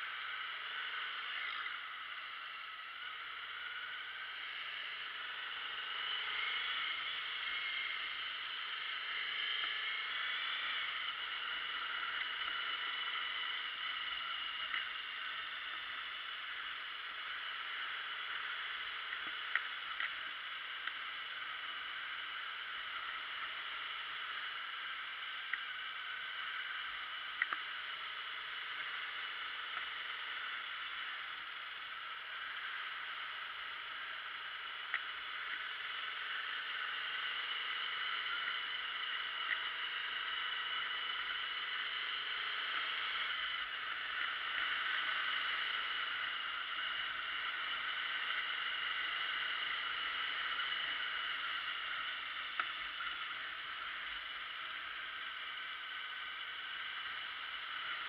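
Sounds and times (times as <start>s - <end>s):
faint motorbike engine hum: 0.0s - 58.0s
wind and road noise: 0.0s - 58.0s.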